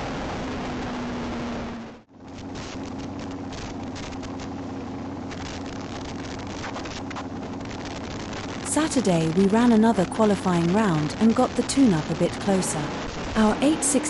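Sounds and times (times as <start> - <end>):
rushing vehicle noise: 0.0 - 14.0.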